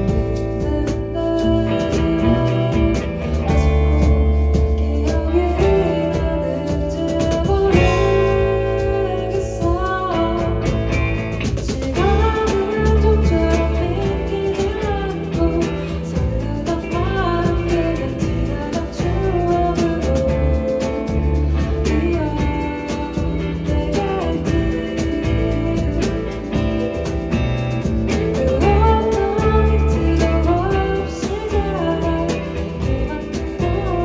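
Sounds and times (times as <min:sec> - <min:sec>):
acoustic guitar: 0:00.0 - 0:34.0
bass line: 0:00.0 - 0:34.0
person singing: 0:00.0 - 0:34.0.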